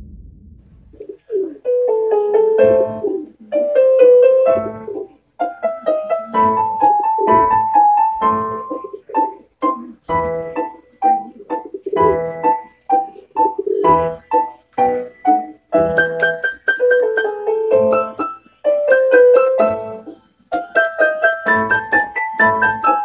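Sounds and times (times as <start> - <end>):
piano music: 1.3 - 23.0.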